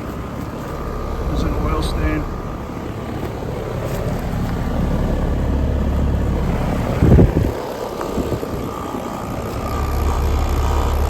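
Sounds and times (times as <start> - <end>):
air conditioner condenser humming: 0.0 - 11.0.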